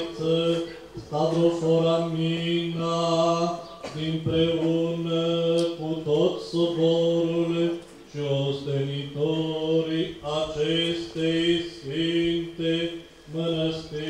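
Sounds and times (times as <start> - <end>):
men's voices chanting: 0.0 - 14.0.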